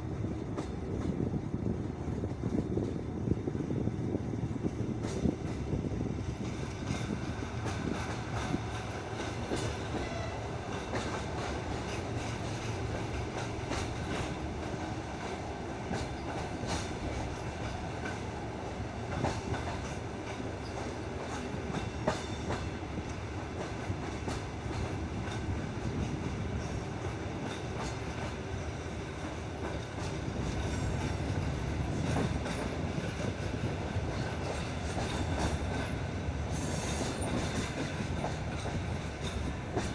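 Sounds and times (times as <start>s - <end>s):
rail joint clicks and knocks: 0.0s - 39.9s
train wheels rumbling on track: 0.0s - 39.9s.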